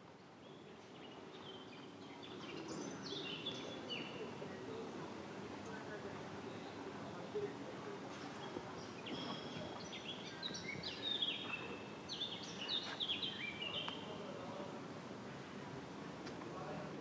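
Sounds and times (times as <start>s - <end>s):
city background hum: 0.0s - 17.0s
small birds chirping: 0.3s - 14.7s.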